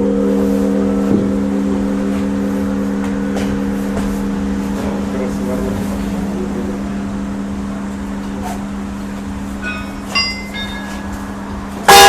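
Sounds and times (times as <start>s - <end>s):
large church bells humming: 0.0s - 12.0s.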